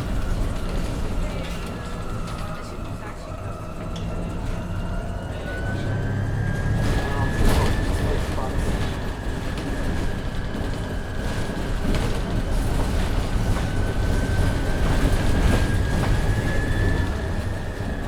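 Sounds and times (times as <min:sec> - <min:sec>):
bus rumbling: 0:00.0 - 0:18.0.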